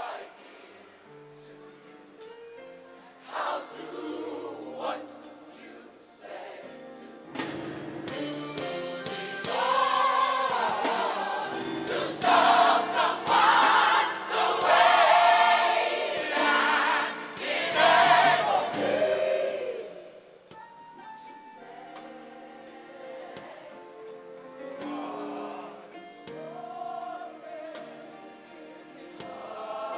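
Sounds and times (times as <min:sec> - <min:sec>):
gospel choir singing: 0:00.0 - 0:02.3, 0:03.0 - 0:29.9.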